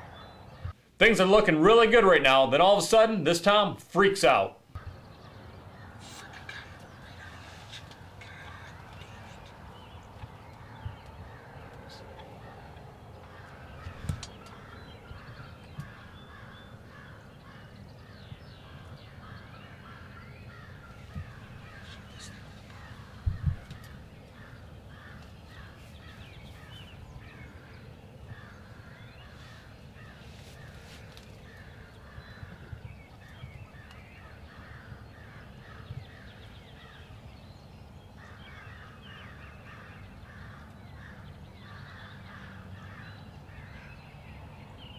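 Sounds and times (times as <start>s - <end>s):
crows cawing: 4.8s - 37.1s, 38.2s - 44.0s.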